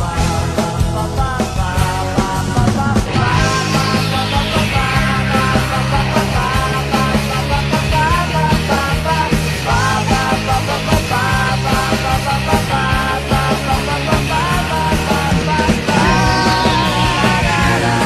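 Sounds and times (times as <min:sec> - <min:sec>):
rock music with singing: 0:00.0 - 0:18.0.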